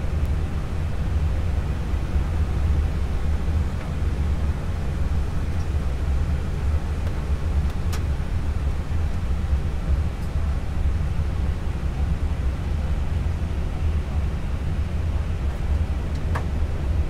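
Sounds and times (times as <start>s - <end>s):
aircraft cockpit engine rumble: 0.0s - 17.0s.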